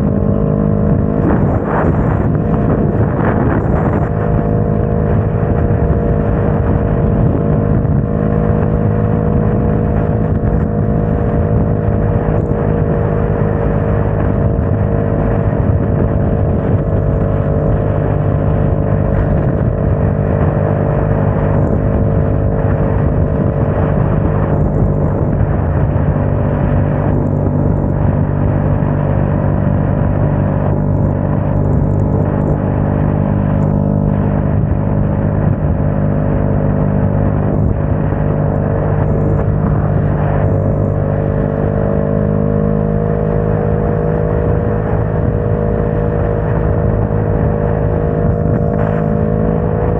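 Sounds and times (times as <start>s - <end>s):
motorcycle engine cruising: 0.0s - 49.9s
wind noise rushing: 0.0s - 49.9s.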